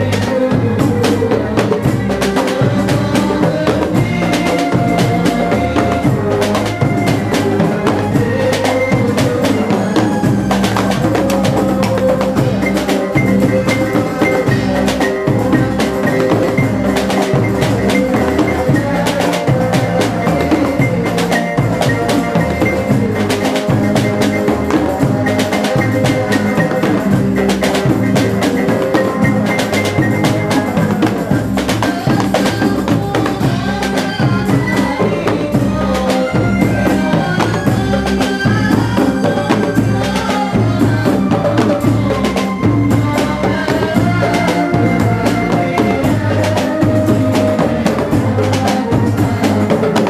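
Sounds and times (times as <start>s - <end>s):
drum kit beat: 0.0s - 50.0s
electric bass: 0.0s - 50.0s
frame drum: 0.0s - 50.0s
young men singing: 0.0s - 50.0s.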